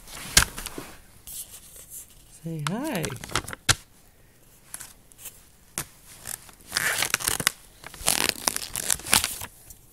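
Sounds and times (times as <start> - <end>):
crinkling and scraping: 0.0 - 3.8, 4.5 - 9.8.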